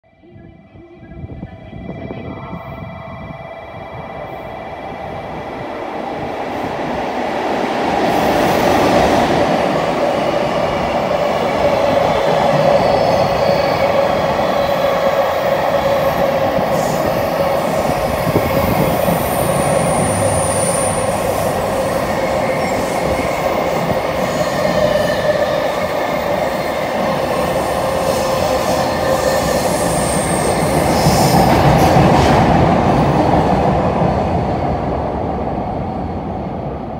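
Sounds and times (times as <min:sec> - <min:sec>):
train wheels rumbling on rail: 0:04.0 - 0:36.9.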